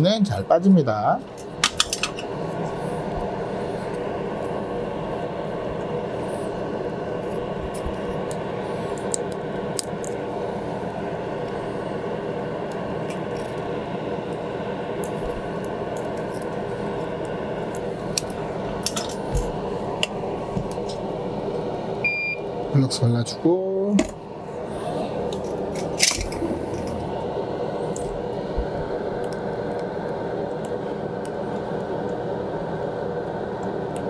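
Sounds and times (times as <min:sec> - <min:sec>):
fume extractor fan whirring: 0:00.0 - 0:34.0.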